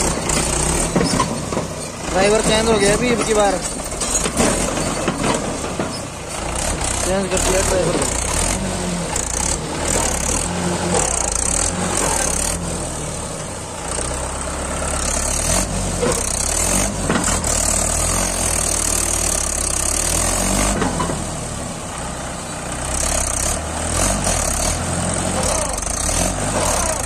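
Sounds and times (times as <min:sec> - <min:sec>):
tractor diesel engine under load: 0:00.0 - 0:27.0.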